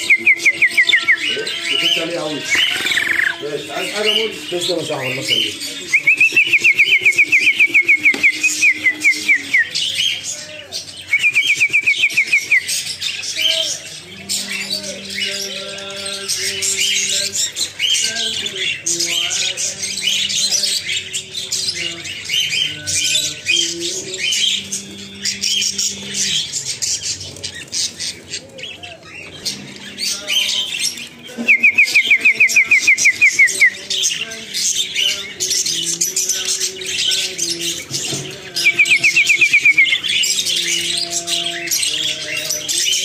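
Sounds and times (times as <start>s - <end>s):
budgerigars chirping and chattering: 0.0s - 43.0s.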